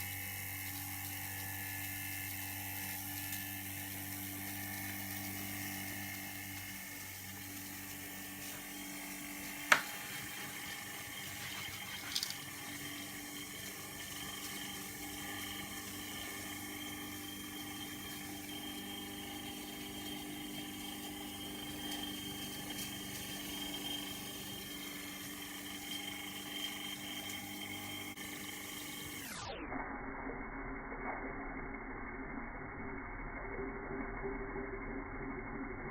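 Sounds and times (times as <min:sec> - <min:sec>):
boiling water bubbling: 0:00.0 - 0:35.9.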